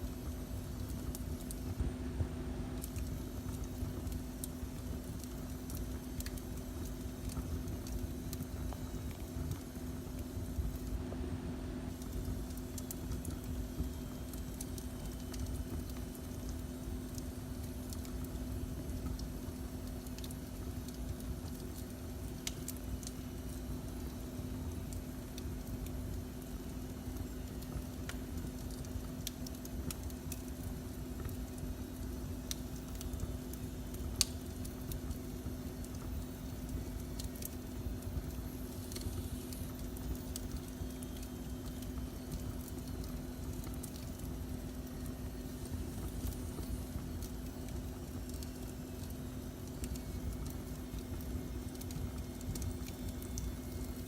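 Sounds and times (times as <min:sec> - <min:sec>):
fire crackling and popping: 0:00.0 - 0:54.0
low rumble and hum: 0:00.0 - 0:54.0.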